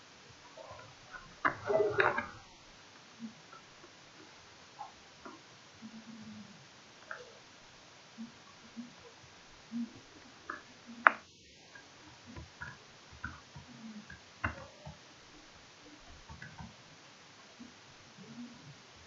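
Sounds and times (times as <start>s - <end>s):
room tone hiss: 0.0s - 19.0s.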